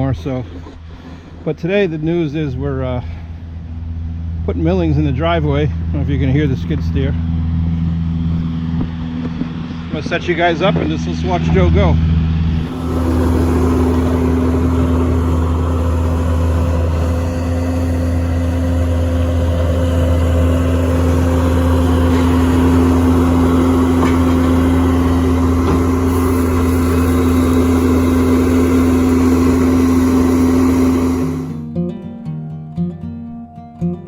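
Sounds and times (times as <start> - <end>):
loader engine running: 0.0 - 31.8.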